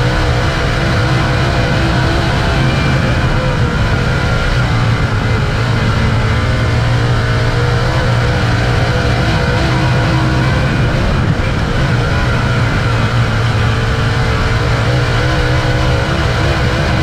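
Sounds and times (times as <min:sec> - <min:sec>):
race car engine running hard: 0:00.0 - 0:17.0.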